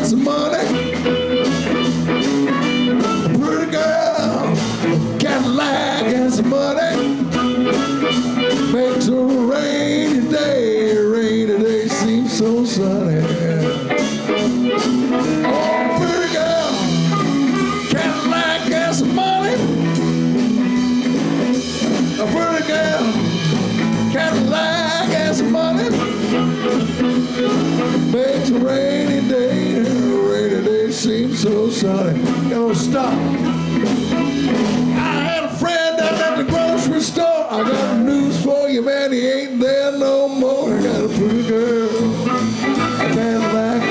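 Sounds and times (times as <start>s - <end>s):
blues band playing a shuffle: 0.0s - 43.9s
wavering lead guitar line: 0.0s - 43.9s.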